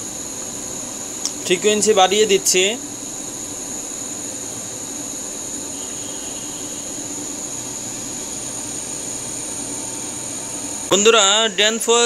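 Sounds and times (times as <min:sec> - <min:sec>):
high steady whine: 0:00.0 - 0:12.0
variable-frequency drive humming: 0:00.0 - 0:12.0.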